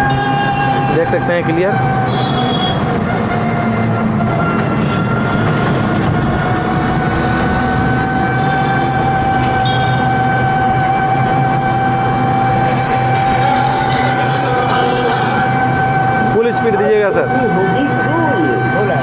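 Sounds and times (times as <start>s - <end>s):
road and wind noise: 0.0s - 19.0s
electric motor whine: 2.1s - 19.0s.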